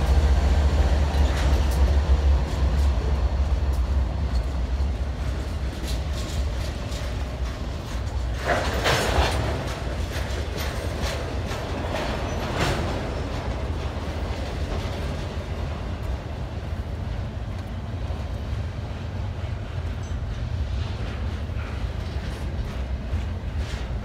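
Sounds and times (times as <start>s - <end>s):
train wheels rumbling on rail: 0.0s - 24.0s
wheels clicking over rail joints: 0.0s - 24.0s.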